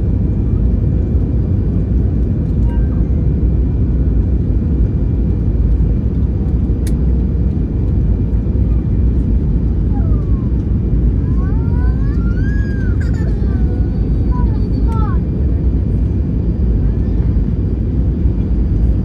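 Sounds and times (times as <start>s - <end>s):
aircraft cabin engine rumble: 0.0s - 19.0s.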